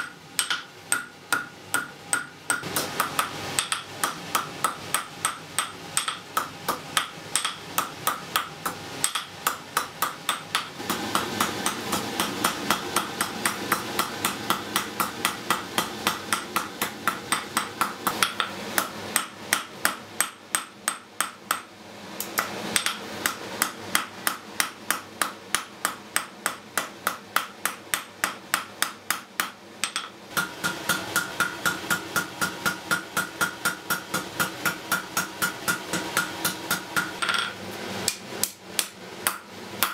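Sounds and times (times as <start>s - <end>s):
hammer striking iron on anvil: 0.0s - 21.7s, 22.4s - 37.5s, 38.1s - 39.9s.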